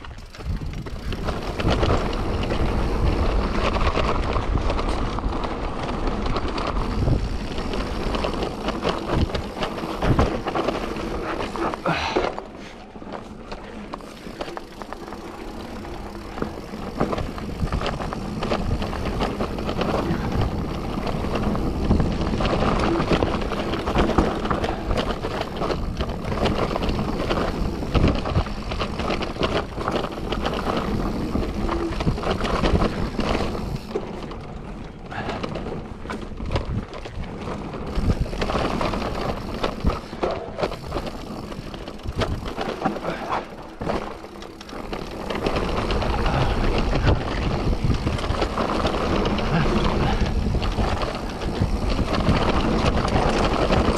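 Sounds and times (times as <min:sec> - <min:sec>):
bike rattling over bumps: 0:00.0 - 0:53.9
bike tyres rolling over rough ground: 0:00.0 - 0:53.9.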